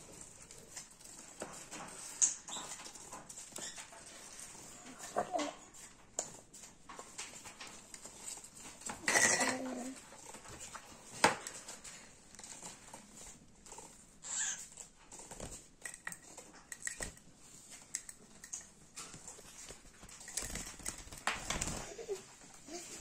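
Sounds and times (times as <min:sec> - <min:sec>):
rustling handling noise: 0:00.0 - 0:23.0.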